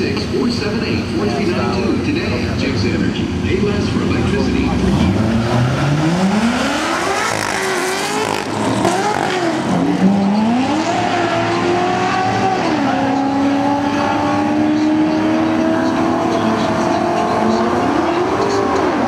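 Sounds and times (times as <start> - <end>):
car engines accelerating hard: 0.0 - 19.0.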